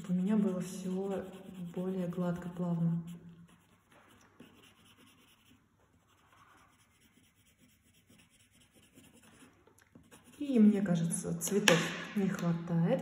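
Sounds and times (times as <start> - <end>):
coloured pencil scratching on paper: 0.0 - 11.1.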